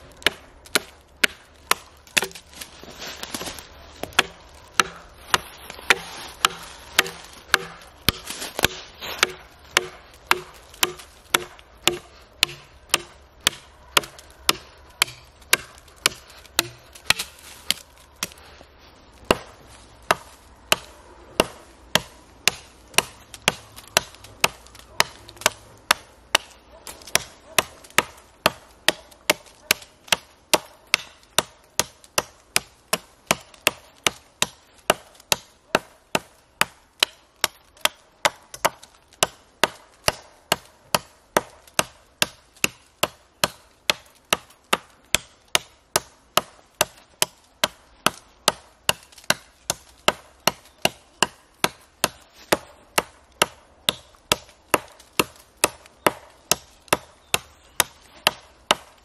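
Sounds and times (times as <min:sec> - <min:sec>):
axe chopping into wood: 0:00.2 - 0:18.4, 0:19.2 - 0:59.0.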